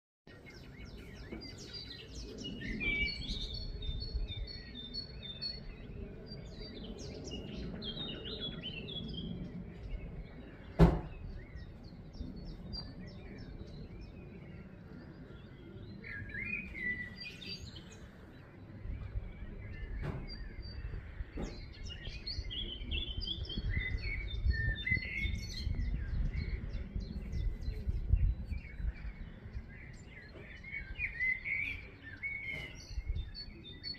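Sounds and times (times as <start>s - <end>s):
birds chirping and trilling: 0.3s - 33.9s.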